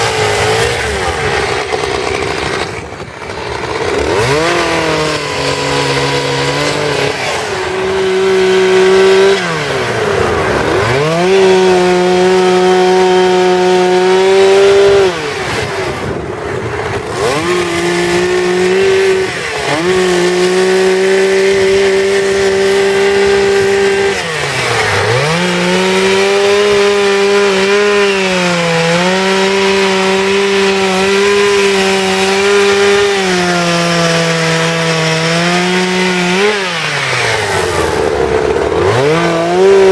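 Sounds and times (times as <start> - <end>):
chainsaw revving while carving wood: 0.0 - 39.9.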